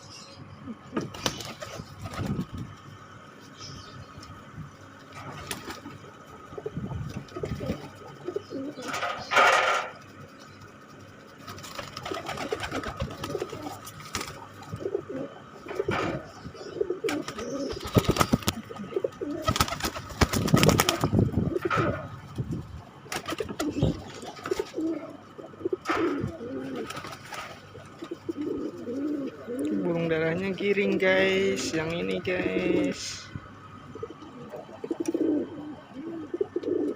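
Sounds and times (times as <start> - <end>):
pigeons cooing: 0.0 - 36.9.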